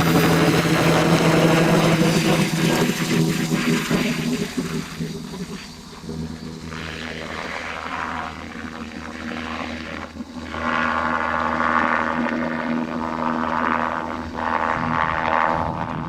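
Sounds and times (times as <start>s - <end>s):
helicopter turbine and rotor: 0.0s - 16.0s.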